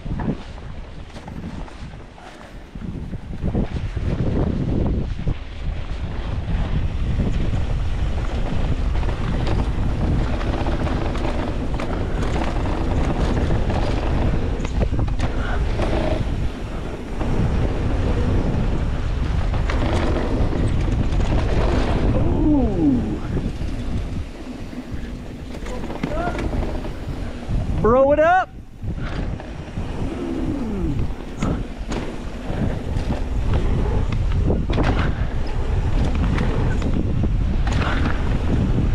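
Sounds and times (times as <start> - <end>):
bike tyres rolling on dirt: 0.0 - 38.9
wind buffeting microphone: 0.0 - 38.9.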